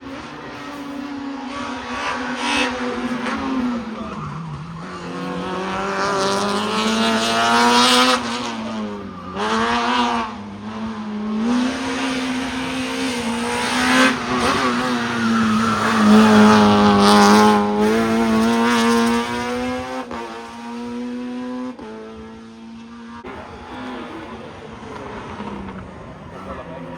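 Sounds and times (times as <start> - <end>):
race car engine accelerating: 0.0 - 26.9.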